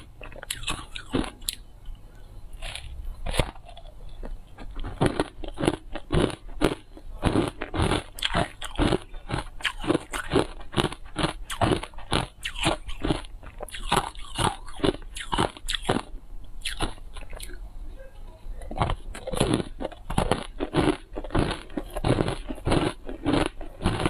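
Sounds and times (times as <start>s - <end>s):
ice being chewed crunching: 0.0s - 1.6s, 2.6s - 17.6s, 18.6s - 24.0s.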